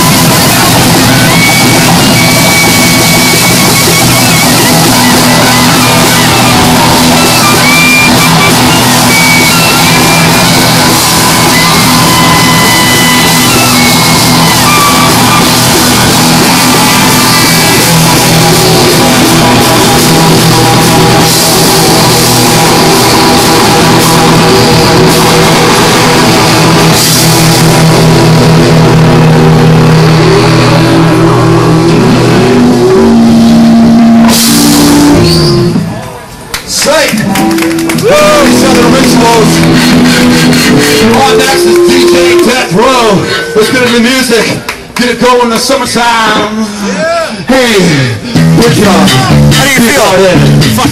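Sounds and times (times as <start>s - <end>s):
saxophone: 0.0s - 35.9s, 37.2s - 44.0s
live rock band playing: 0.0s - 45.0s, 48.2s - 50.9s.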